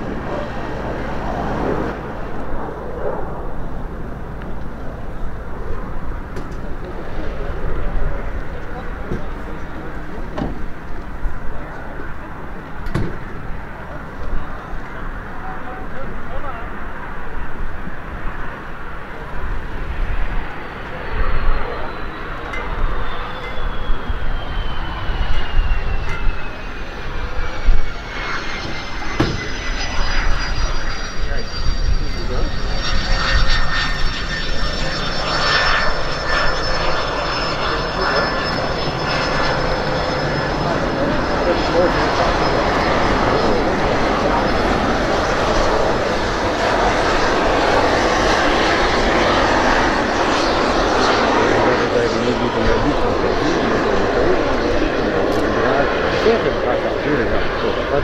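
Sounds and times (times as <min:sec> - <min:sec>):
jet engine whine and rumble: 0:00.0 - 0:58.0.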